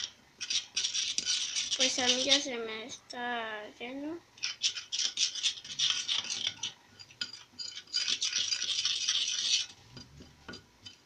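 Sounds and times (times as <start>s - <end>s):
wooden skewer scraping container: 0.0s - 2.5s, 4.4s - 11.0s.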